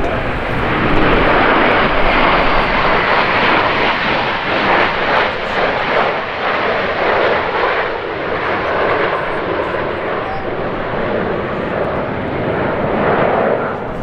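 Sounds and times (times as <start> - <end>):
airplane engine noise: 0.0 - 14.0.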